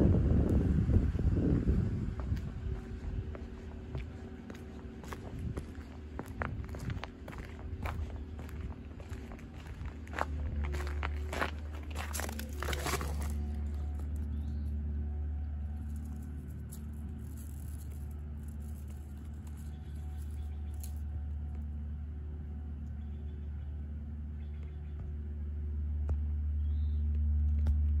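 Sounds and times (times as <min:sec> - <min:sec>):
faint steady hum: 0:00.0 - 0:28.0
steady low rumble: 0:00.0 - 0:28.0.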